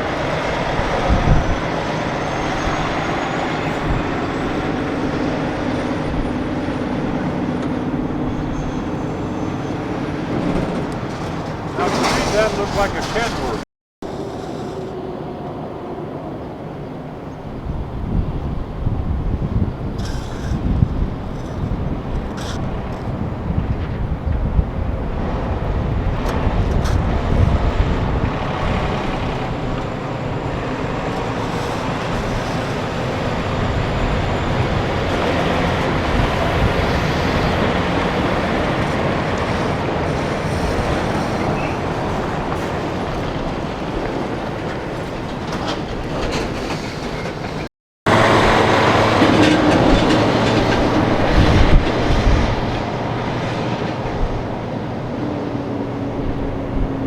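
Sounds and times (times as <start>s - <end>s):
heavy vehicles passing: 0.0s - 57.0s.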